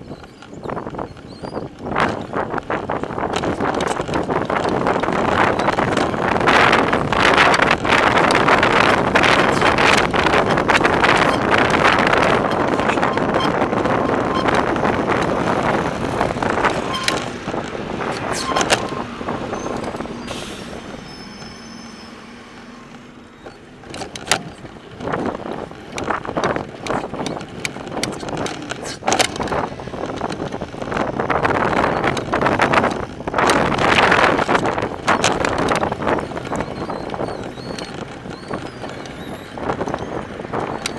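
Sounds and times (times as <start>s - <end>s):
bike clicks and knocks: 0.0s - 20.4s, 22.6s - 40.9s
wind rush on microphone: 0.0s - 40.9s.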